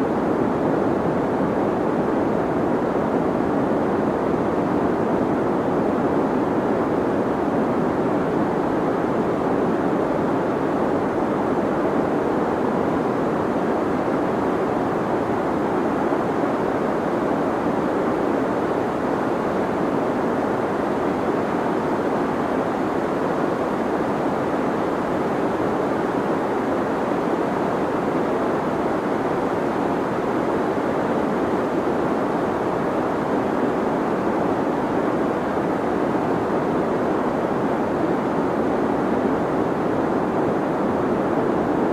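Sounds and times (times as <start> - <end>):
deep white noise hiss: 0.0 - 41.9.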